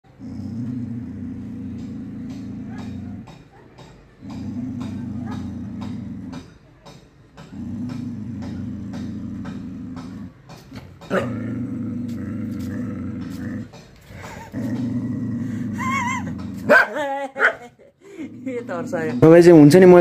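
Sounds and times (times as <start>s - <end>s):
dog growling low: 0.0s - 3.5s, 4.2s - 6.6s, 7.4s - 10.4s, 11.1s - 16.8s, 18.1s - 19.7s.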